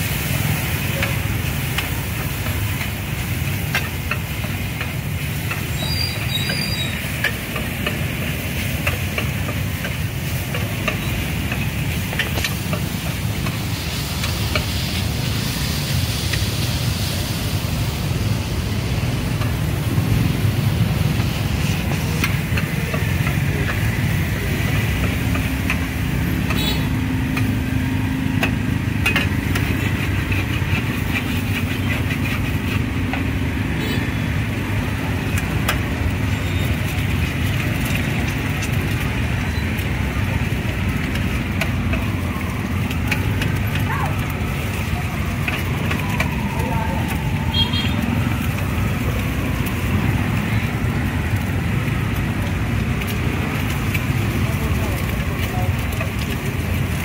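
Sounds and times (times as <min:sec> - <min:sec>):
motorbike engines passing: 0:00.0 - 0:57.0
noodles sizzling: 0:00.0 - 0:57.0.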